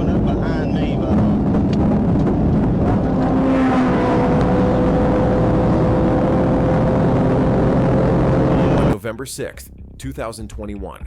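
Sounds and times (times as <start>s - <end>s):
road noise: 0.0s - 9.0s
vehicle engine running hard: 0.0s - 9.0s.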